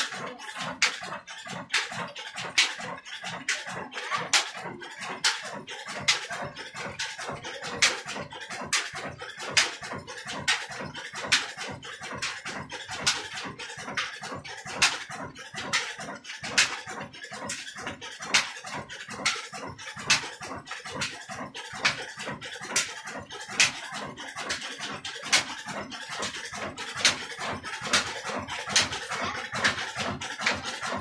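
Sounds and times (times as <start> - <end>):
diesel engine thudding slowly: 0.0 - 31.0.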